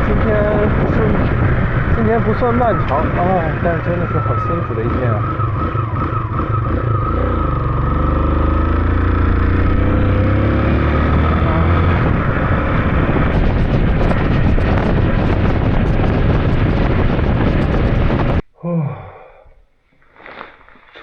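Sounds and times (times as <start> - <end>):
wind rushing over microphone: 0.0 - 8.0, 8.6 - 18.4
motorcycle engine: 0.0 - 18.4.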